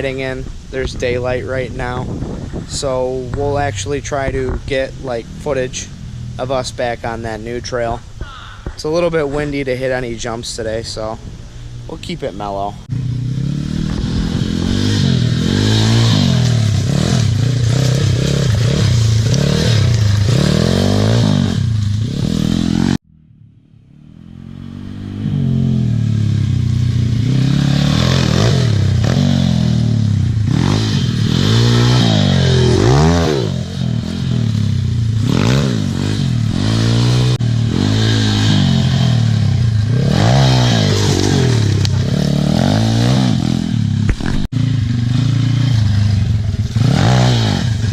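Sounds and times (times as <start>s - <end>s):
pit bike engine revving: 0.0s - 8.1s, 11.4s - 47.9s.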